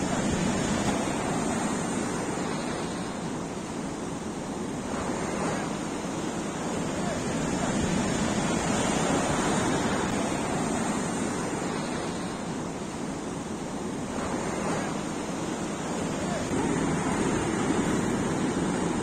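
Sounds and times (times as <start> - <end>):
sea surf breaking on beach: 0.0 - 19.0.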